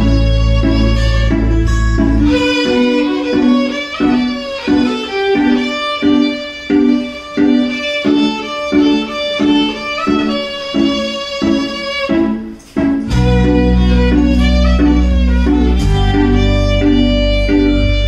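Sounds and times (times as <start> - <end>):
instrumental melody of struck notes: 0.0 - 18.0.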